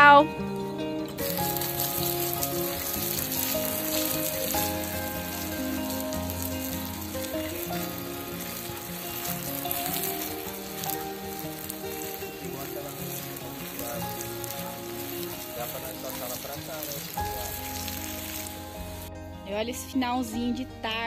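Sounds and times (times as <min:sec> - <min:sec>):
background music melody: 0:00.0 - 0:21.0
water spray hissing on grass: 0:01.1 - 0:19.2.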